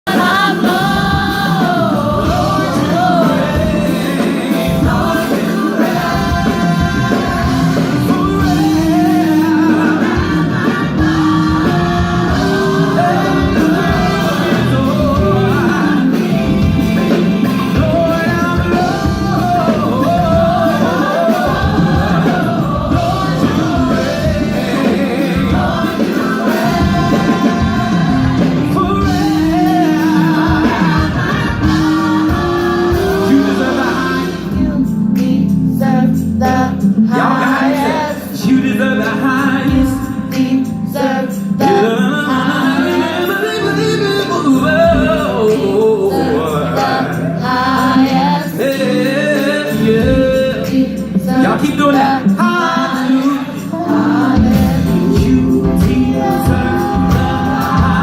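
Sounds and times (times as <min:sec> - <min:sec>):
gospel choir singing in harmony: 0:00.0 - 0:58.0
musical backing: 0:00.0 - 0:58.0.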